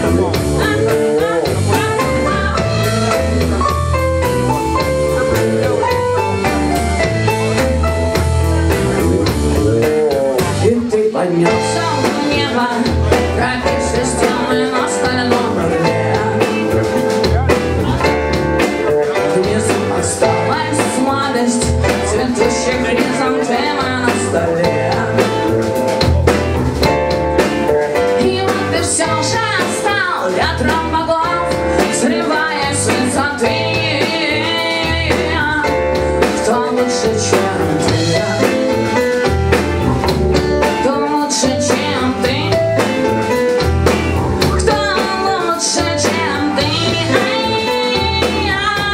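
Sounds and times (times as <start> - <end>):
guitar lead with bending notes: 0.0 - 10.8, 11.5 - 48.9
bass and drums: 0.0 - 48.9.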